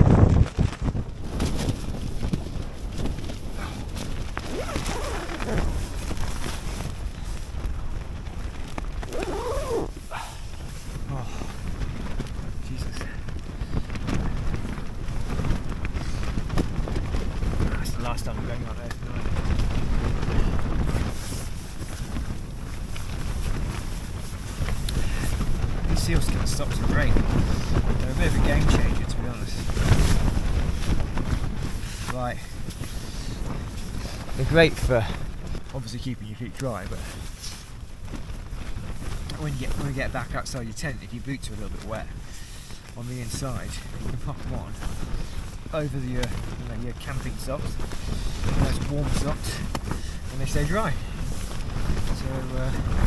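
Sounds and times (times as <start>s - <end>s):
tent fabric flapping: 0.0s - 53.0s
wind rumbling: 0.0s - 53.0s.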